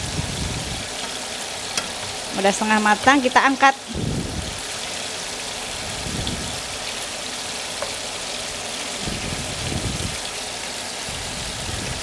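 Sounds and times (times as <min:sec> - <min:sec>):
shrimp sizzling in frying pan: 0:00.0 - 0:12.0.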